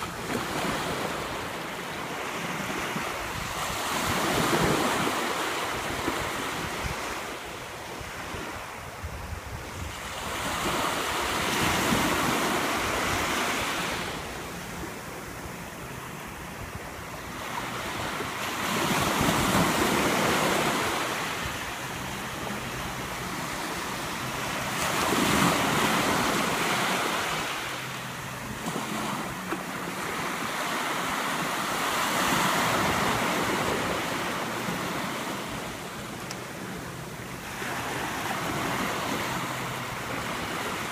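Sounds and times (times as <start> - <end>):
small waves breaking on beach: 0.0 - 40.9.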